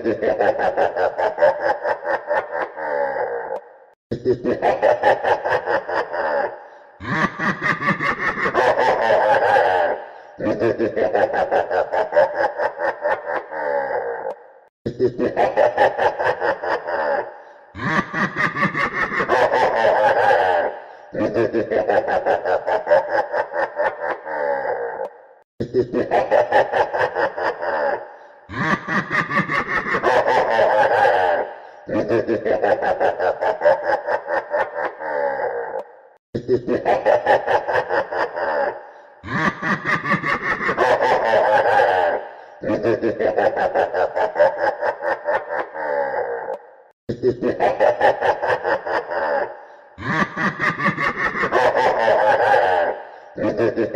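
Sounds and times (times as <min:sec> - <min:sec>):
evil laugh: 0:00.0 - 0:53.9.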